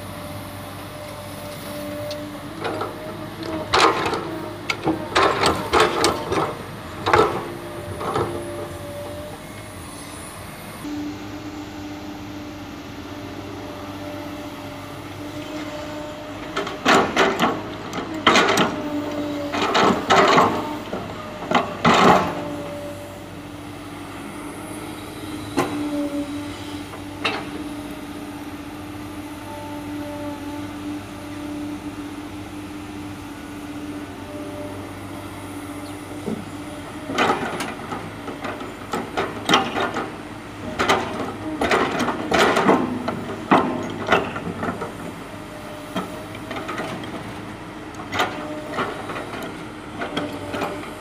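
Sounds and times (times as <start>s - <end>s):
diesel engine humming: 0.0s - 51.0s.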